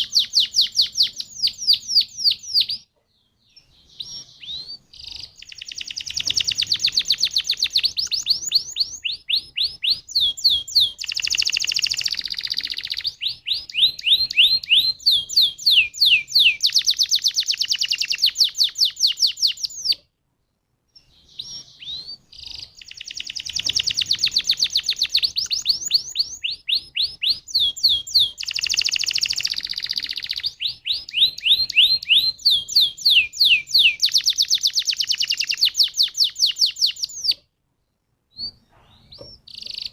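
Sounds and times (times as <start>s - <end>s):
canary singing trills: 0.0s - 20.1s, 20.9s - 37.5s, 38.3s - 39.9s.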